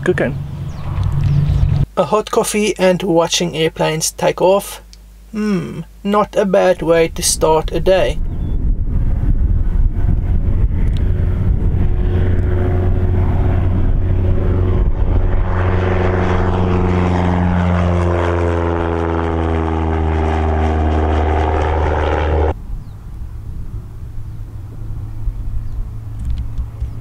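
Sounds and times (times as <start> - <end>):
light airplane engine and propeller: 0.0 - 3.0, 4.1 - 27.0.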